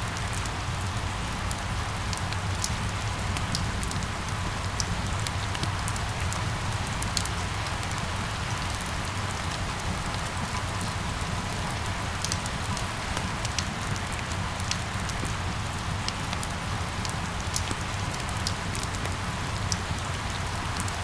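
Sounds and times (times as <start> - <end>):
rain on hard surfaces: 0.0 - 21.0.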